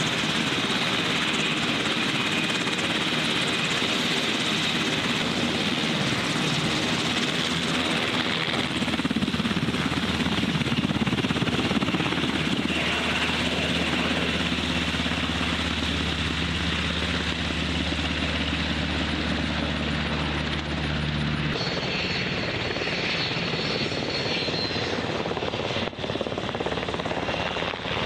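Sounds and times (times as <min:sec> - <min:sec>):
helicopter rotor and engines: 0:00.0 - 0:28.0.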